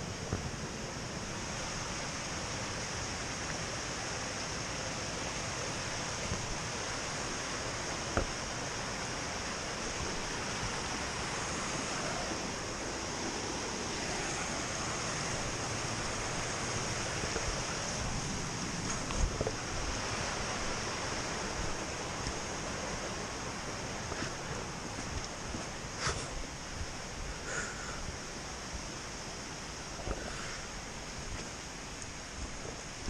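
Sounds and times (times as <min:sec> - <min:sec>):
creek water flowing: 0:00.0 - 0:33.0.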